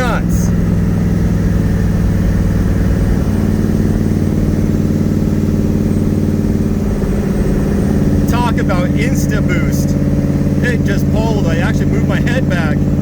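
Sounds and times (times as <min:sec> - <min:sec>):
car engine running from inside: 0:00.0 - 0:13.0.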